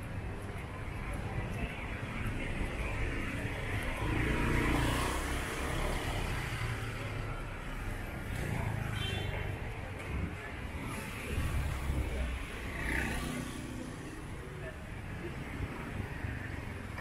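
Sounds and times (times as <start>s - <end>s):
street traffic passing: 0.0s - 17.0s.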